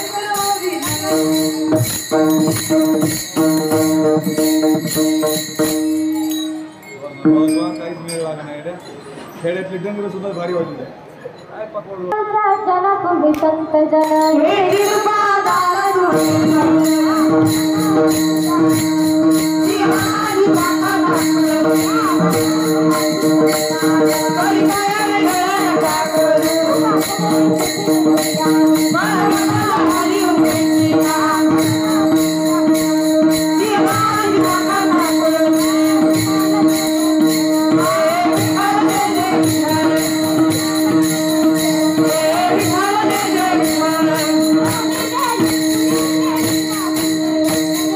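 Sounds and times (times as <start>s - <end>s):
hand drum: 0.0s - 6.8s, 14.2s - 47.9s
hand cymbals clashing: 0.0s - 9.4s, 13.9s - 47.9s.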